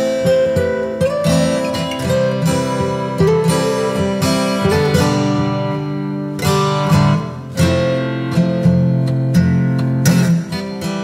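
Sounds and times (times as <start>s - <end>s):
acoustic guitar strummed and plucked: 0.0s - 11.0s.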